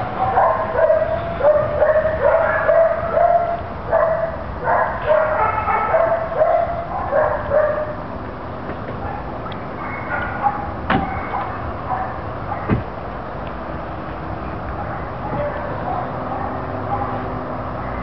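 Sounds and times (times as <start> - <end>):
dogs barking: 0.1 - 8.1, 8.9 - 12.9, 14.7 - 18.0.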